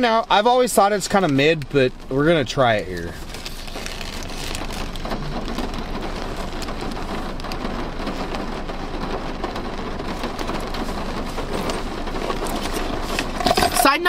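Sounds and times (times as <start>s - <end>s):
rain on car roof: 0.0s - 14.0s.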